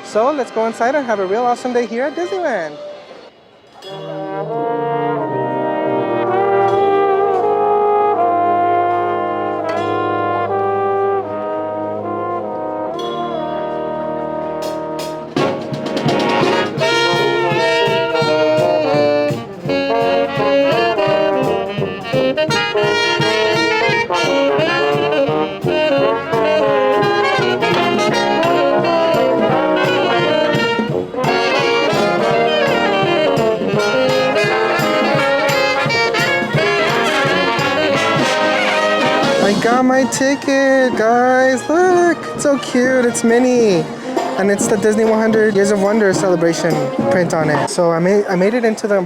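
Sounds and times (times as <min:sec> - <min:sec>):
upbeat brass music: 0:00.0 - 0:47.8.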